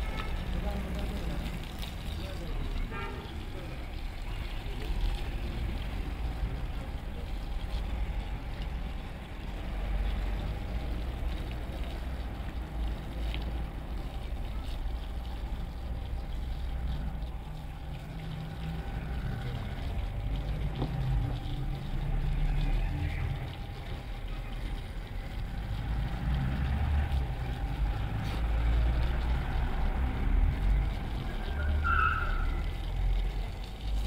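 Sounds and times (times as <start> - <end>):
hose water splashing on rug: 0.0 - 34.0.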